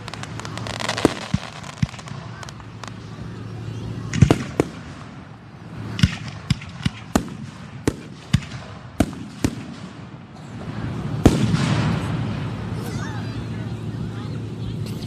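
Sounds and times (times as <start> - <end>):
fireworks bursting: 0.0 - 12.8.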